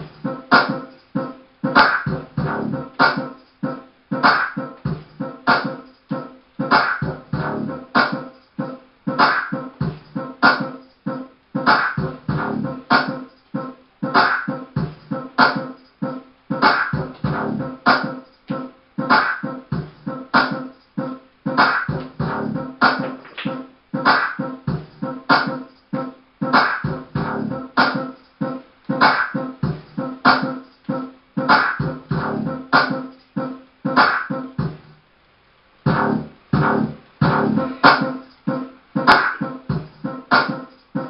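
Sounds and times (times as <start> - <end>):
music with a strong steady beat: 0.0 - 35.1, 35.9 - 41.0.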